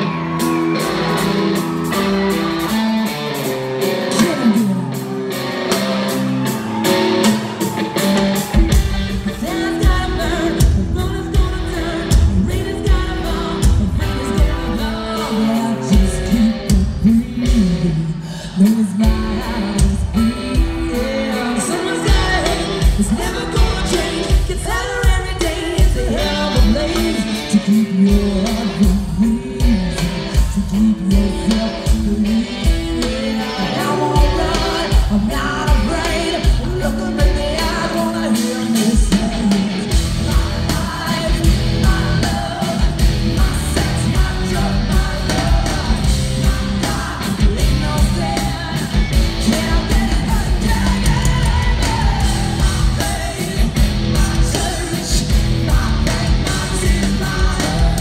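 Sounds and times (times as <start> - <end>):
drum kit beat: 0.0 - 58.0
electric guitars: 0.0 - 58.0
woman singing: 9.1 - 58.0.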